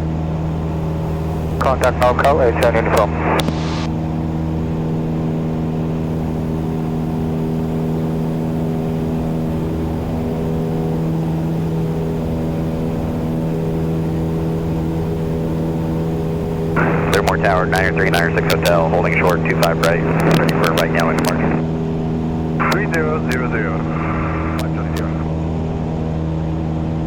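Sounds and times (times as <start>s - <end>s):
propeller aircraft engine droning: 0.0s - 27.0s.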